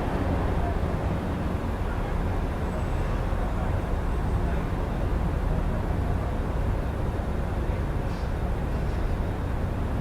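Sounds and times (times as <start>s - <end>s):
low rumble of city traffic: 0.0s - 10.0s.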